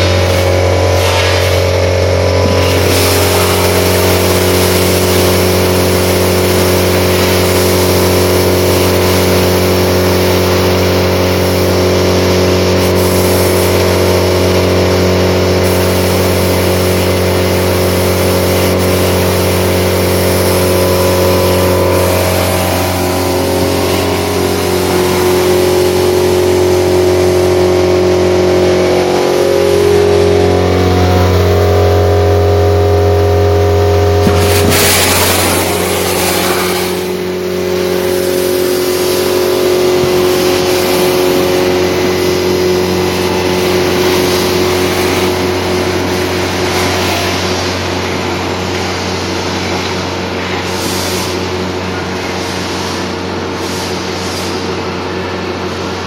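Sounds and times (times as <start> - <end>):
industrial vacuum loader drone: 0.0 - 56.0.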